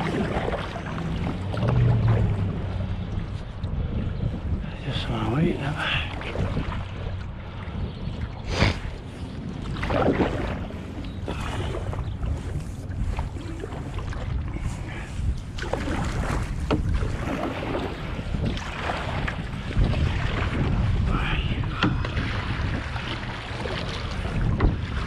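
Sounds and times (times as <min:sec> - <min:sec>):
paddle knocks and splashes: 0:00.0 - 0:04.3, 0:05.8 - 0:25.0
wind rumbling on microphone: 0:00.0 - 0:25.0.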